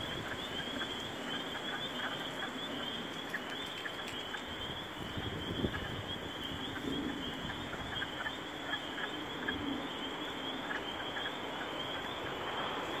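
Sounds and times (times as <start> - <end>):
frogs trilling: 0.0 - 13.0.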